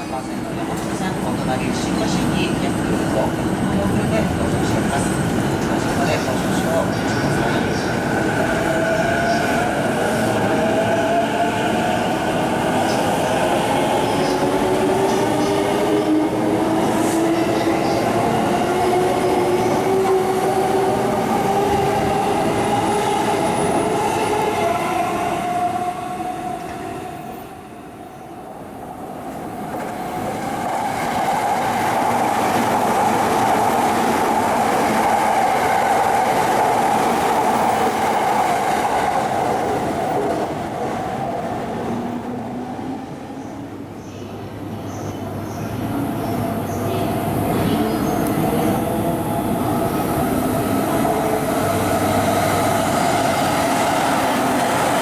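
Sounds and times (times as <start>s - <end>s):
train passing loudly: 0.0s - 55.0s.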